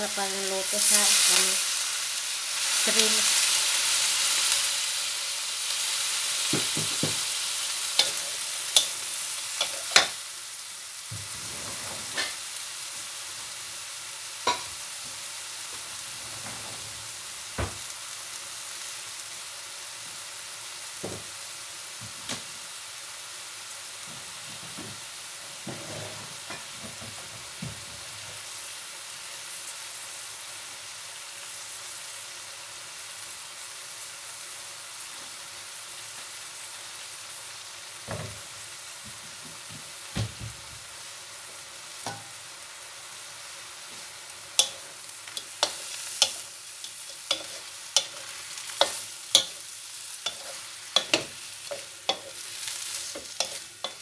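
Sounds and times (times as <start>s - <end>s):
water hissing in hot wok: 0.0s - 54.0s.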